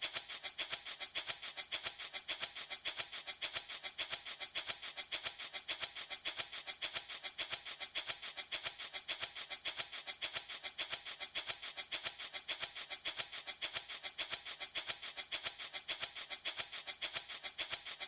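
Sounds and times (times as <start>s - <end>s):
baby rattle shaking: 0.0s - 18.0s.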